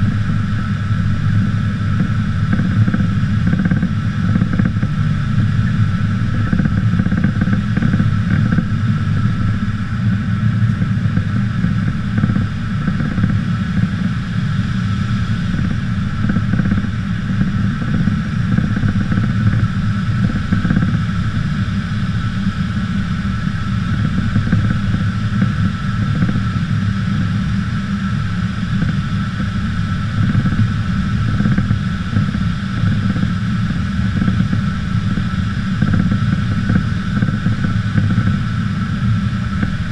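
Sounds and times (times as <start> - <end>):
aircraft engine drone in cabin: 0.0 - 39.9.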